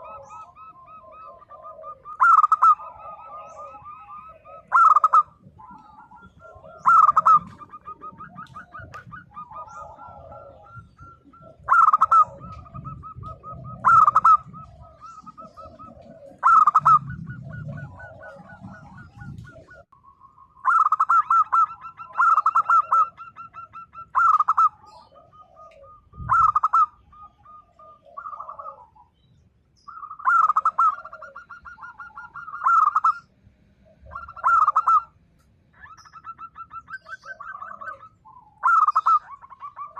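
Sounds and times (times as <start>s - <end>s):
dove cooing: 0.0s - 20.0s, 20.6s - 29.1s, 29.9s - 39.9s.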